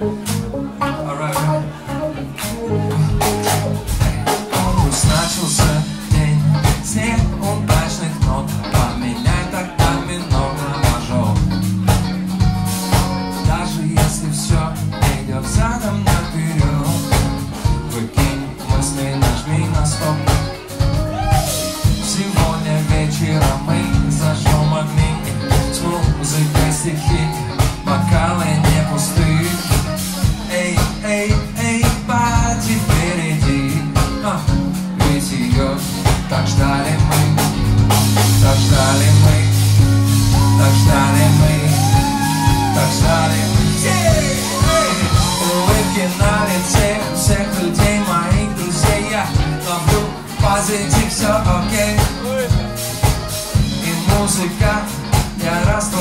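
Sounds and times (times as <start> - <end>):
drum kit: 0.0 - 1.7, 2.3 - 56.0
man singing: 0.0 - 12.2, 12.9 - 56.0
electric bass: 0.0 - 56.0.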